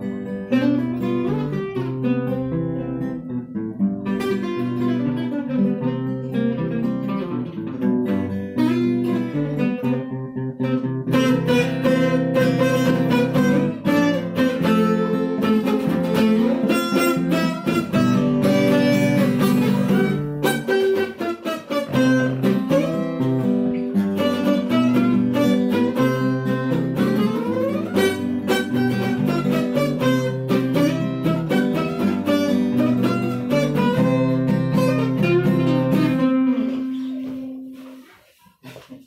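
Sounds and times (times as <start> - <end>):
acoustic guitars playing: 0.0 - 39.0.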